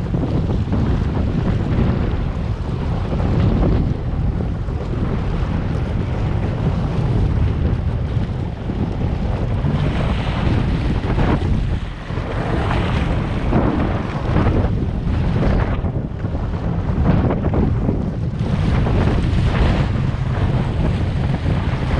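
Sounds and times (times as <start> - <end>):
personal watercraft engine: 0.0 - 21.9
wind buffeting microphone: 0.0 - 21.9.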